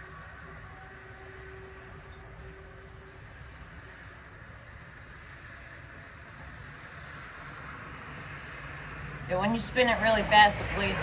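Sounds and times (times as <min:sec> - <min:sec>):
faint hum: 0:00.0 - 0:10.8.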